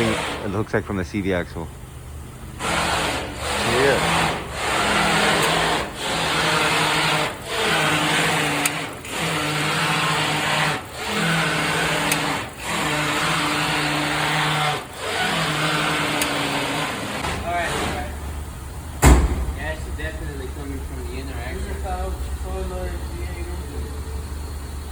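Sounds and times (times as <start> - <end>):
mechanical whirring hum: 0.0 - 24.9.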